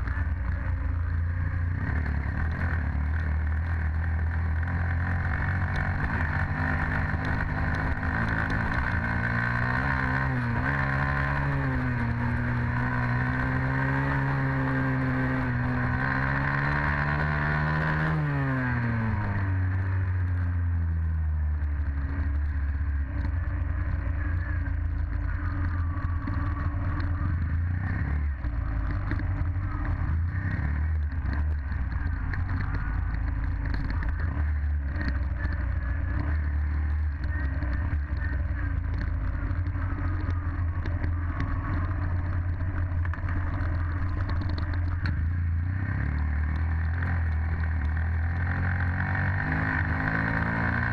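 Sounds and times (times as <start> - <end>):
dirt bike engine running: 0.0 - 50.9.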